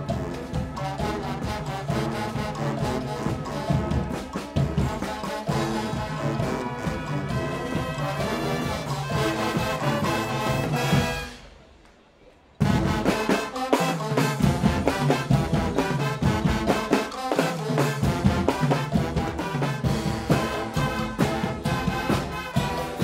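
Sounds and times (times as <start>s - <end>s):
brass band playing: 0.0s - 11.8s, 12.6s - 23.0s.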